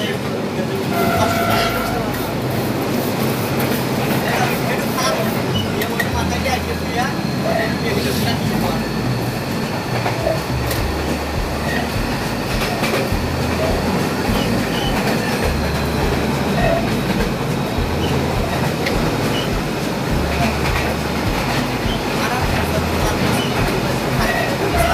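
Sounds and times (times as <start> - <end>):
train rumble: 0.0 - 24.9
wheels clickety-clack on rails: 0.0 - 24.9.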